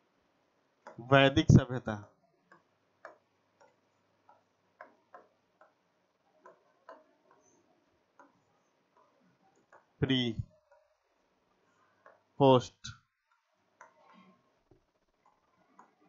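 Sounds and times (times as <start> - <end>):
pen tapping on whiteboard screen: 2.0 - 12.4, 13.2 - 16.0.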